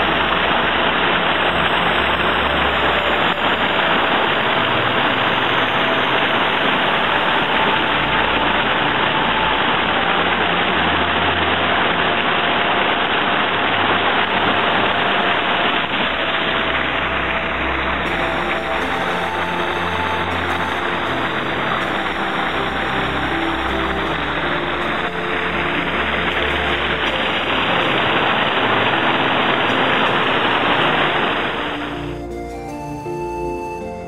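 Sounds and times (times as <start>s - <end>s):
stream rushing over rocks: 0.0s - 32.2s.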